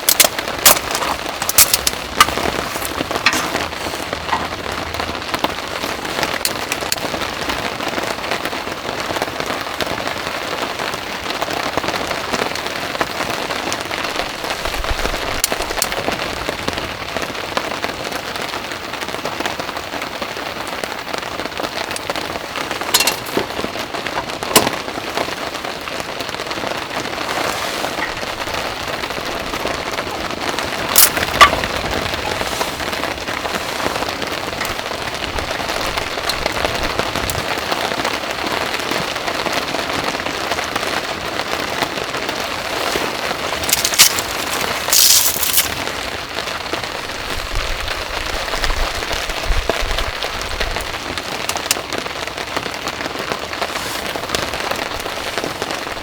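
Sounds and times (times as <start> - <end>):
heavy rain falling: 0.0 - 56.0
sharp raindrop hits: 0.0 - 56.0.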